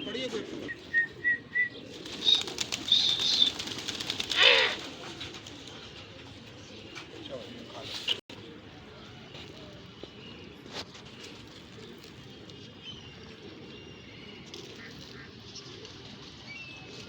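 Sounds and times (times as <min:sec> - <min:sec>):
pigeons cooing: 0:00.0 - 0:09.5, 0:10.2 - 0:17.0.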